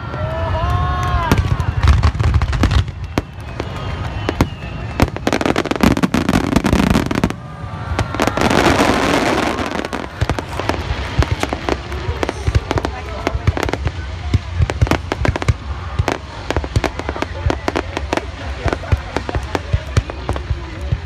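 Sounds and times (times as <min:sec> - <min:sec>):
fireworks crackling: 0:00.0 - 0:21.0
fireworks bursting: 0:01.0 - 0:21.0.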